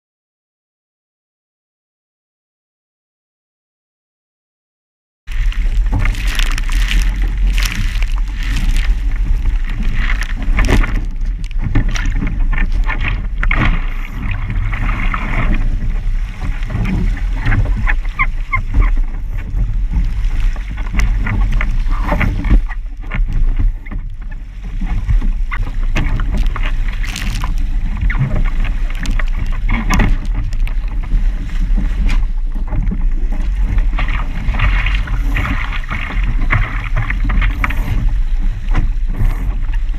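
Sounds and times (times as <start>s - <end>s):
water rushing along hull: 5.3s - 39.9s
wind buffeting microphone: 5.3s - 39.9s.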